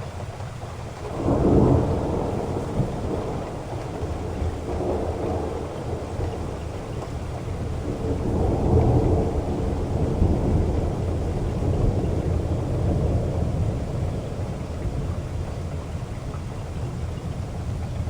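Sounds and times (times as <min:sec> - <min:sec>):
heavy rain: 0:00.0 - 0:18.0
thunder rumbling: 0:00.9 - 0:18.0.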